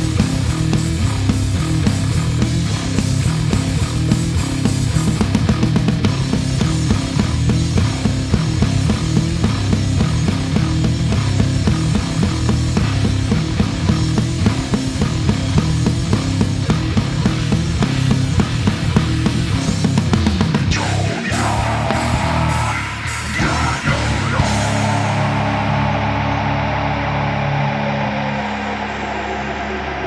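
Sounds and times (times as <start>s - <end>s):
fast drumming: 0.0s - 25.7s
bass guitar through effects: 0.0s - 30.0s.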